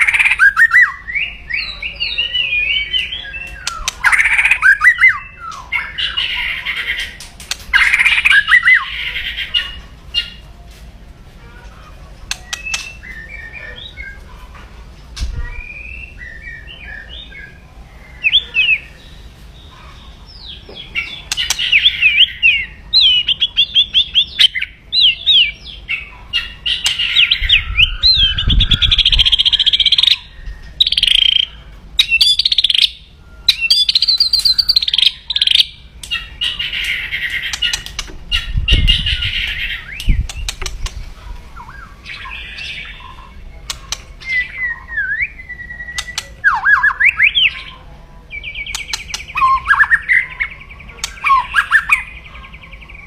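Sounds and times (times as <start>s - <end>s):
bird song with harsh rattling notes: 0.0s - 10.4s, 11.5s - 14.3s, 15.2s - 53.0s.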